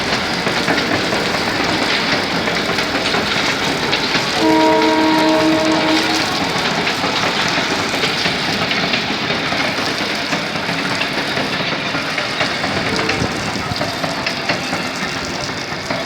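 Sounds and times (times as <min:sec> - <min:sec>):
heavy rain: 0:00.0 - 0:16.0
running water: 0:00.0 - 0:16.0
small ticks of raindrops: 0:00.0 - 0:16.0.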